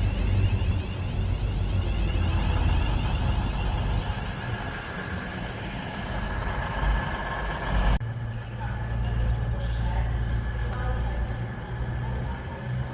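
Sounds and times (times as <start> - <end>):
train diesel engines idling: 0.0 - 12.9.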